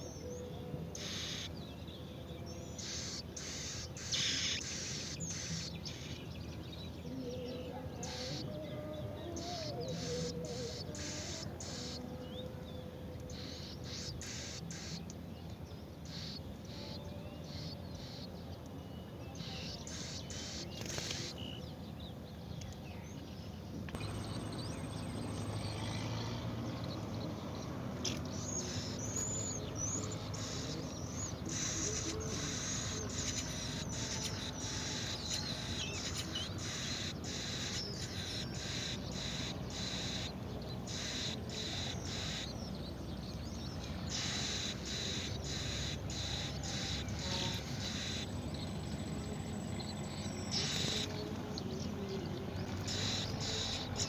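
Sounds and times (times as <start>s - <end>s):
birds chirping: 0.0s - 54.0s
outdoor background noise: 0.0s - 54.0s.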